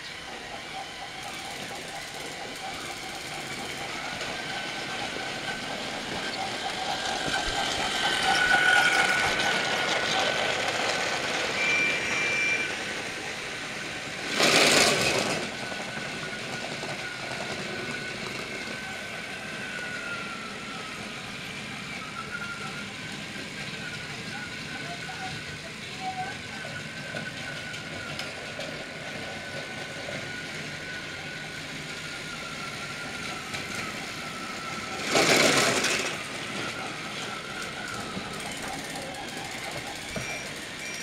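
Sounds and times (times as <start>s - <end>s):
toy train motor whine: 0.0s - 41.0s.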